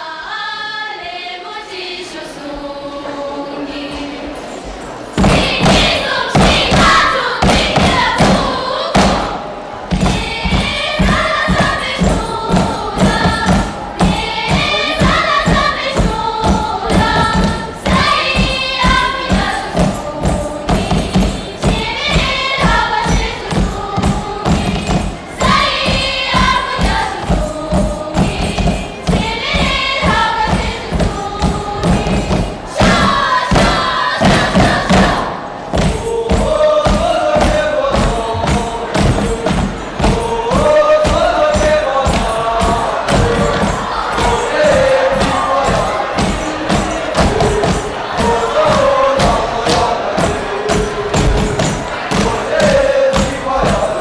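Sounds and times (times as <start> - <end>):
girls singing in chorus: 0.0 - 54.0
rhythmic thuds on stage floor: 5.2 - 54.0.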